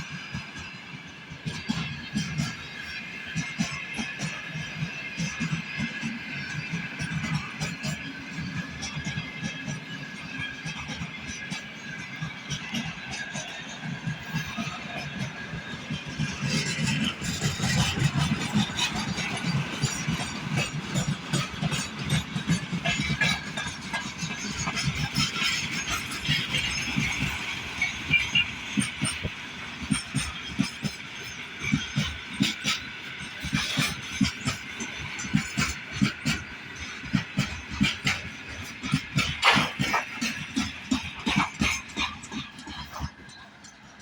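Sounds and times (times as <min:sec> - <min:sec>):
train rumble and hiss: 0:00.0 - 0:44.0
train wheels clacking: 0:00.0 - 0:44.0.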